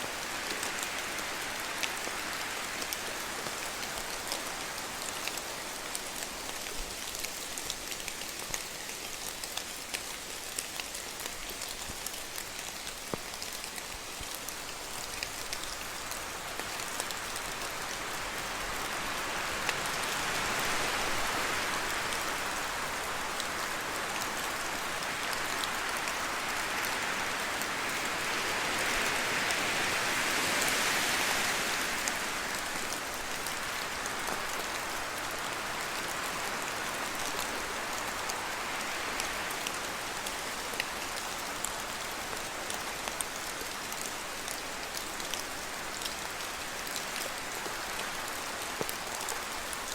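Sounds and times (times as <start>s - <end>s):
rain falling on trees: 0.0s - 49.9s
wind gust through trees: 0.0s - 49.9s.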